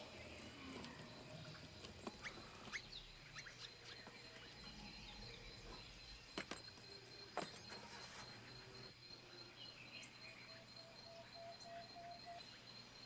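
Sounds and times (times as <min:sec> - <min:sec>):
bird-like chirps: 0:00.0 - 0:13.0
high insect drone: 0:00.0 - 0:13.0.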